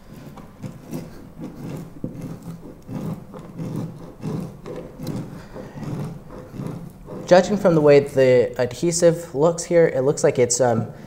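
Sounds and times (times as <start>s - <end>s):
metal scraper scraping glue: 0.0s - 9.2s.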